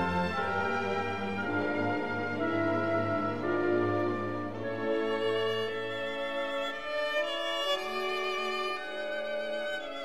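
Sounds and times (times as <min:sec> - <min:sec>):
orchestral music with brass and strings: 0:00.0 - 0:10.0.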